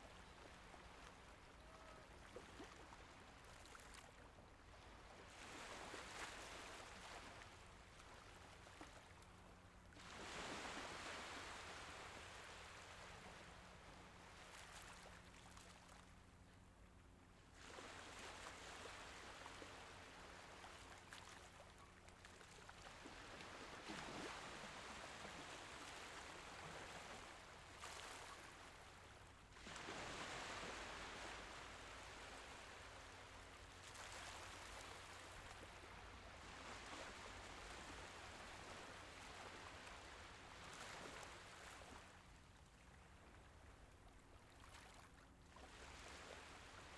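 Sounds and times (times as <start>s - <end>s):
faint sea waves washing in: 0.0s - 16.4s, 17.6s - 43.2s.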